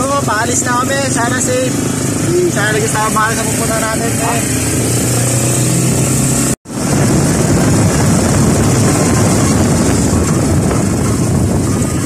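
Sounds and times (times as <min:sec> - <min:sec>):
rushing wind and road noise: 0:00.0 - 0:12.0
vehicle engine drone: 0:00.0 - 0:12.0.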